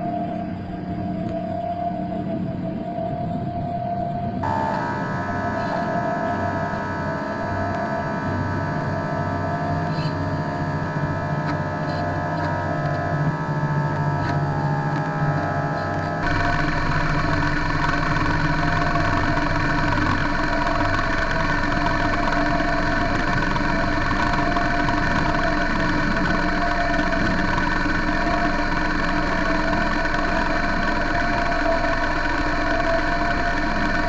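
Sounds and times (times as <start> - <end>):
electric motor humming: 4.4 - 34.0.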